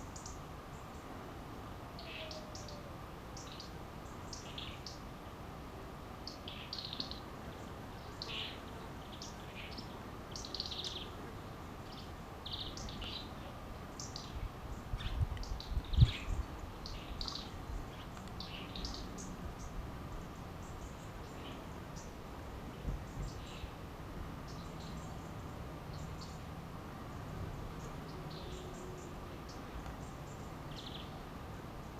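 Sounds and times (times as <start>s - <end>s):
small birds chirping: 0.0s - 1.1s, 2.0s - 5.1s, 6.2s - 23.8s, 24.4s - 31.9s.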